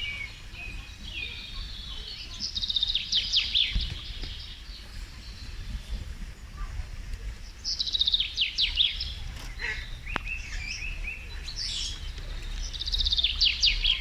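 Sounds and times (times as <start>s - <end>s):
soft bird chirps: 0.0s - 6.8s, 7.4s - 14.0s
low background rumble: 0.0s - 14.0s
songbird singing trills: 0.0s - 14.0s.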